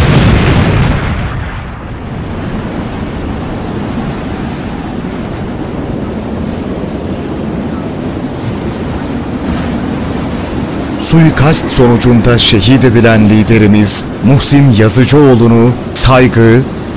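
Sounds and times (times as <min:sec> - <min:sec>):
steady wind: 0:00.0 - 0:16.9.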